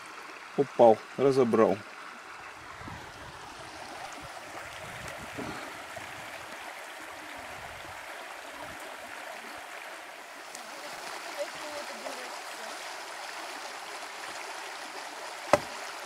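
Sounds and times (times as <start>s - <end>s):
river rushing: 2.4s - 16.0s.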